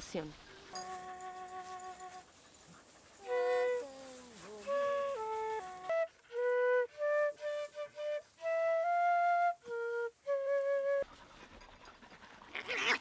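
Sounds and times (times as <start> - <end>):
flute-like wind instrument melody: 0.5 - 11.2.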